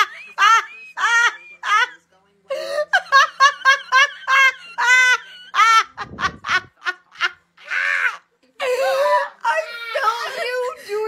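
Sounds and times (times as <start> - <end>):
woman laughing hysterically: 0.0 - 11.0.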